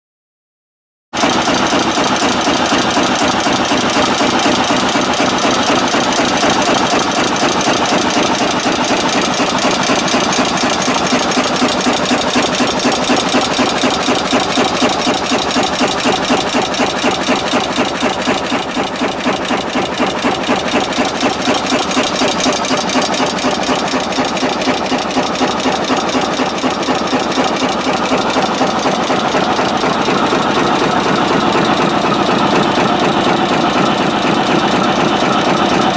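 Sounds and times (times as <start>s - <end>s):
heading machine clattering: 1.2s - 35.9s.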